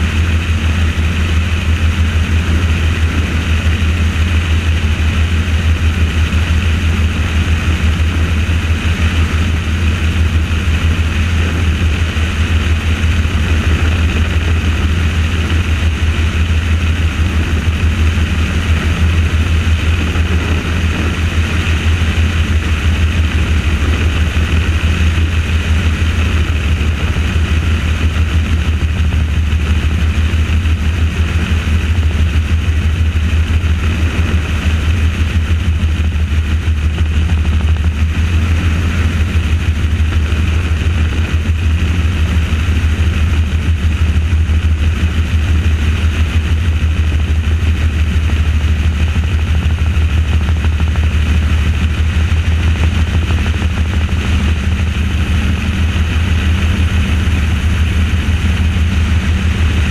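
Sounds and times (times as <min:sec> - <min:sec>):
helicopter in flight: 0:00.0 - 0:59.9.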